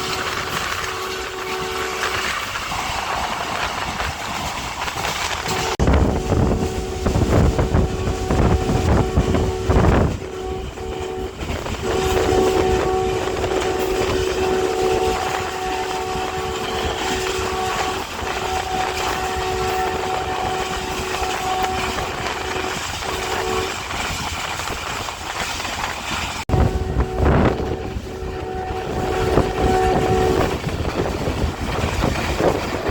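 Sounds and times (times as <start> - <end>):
locomotive horn blasts: 0.0 - 2.5, 5.4 - 24.1, 26.5 - 32.9
train rumbling on rails: 0.0 - 32.9.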